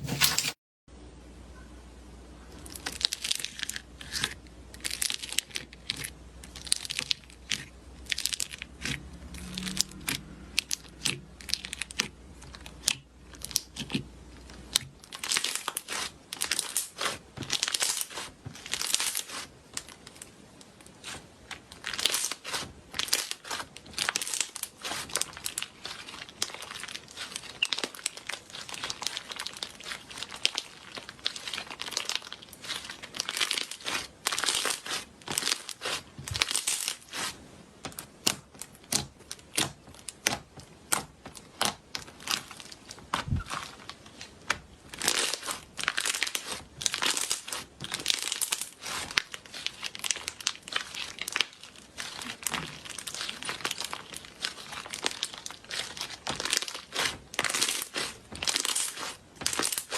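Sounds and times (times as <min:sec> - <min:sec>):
slime squeezed crackling and popping: 0:02.6 - 0:59.9.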